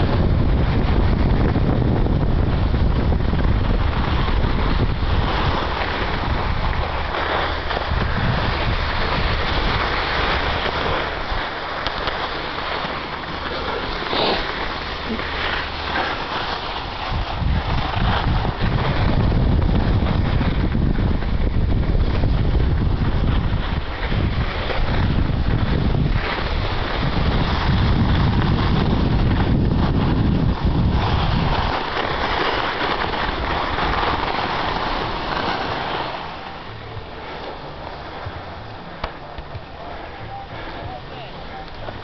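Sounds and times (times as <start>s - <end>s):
skis sliding on snow: 0.0s - 42.0s
wind buffeting microphone: 0.0s - 42.0s.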